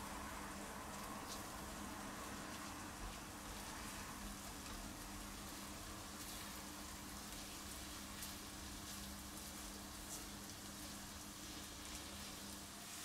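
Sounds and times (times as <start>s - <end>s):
onion sizzling in frying pan: 0.0s - 13.0s.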